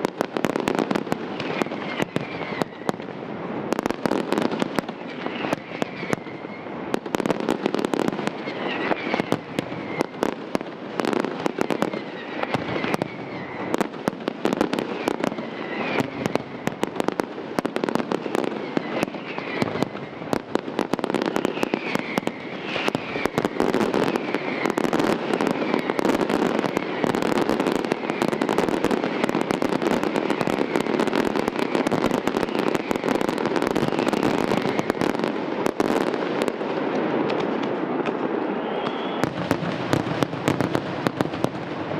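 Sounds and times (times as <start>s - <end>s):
firework whistles: 0.0s - 41.9s.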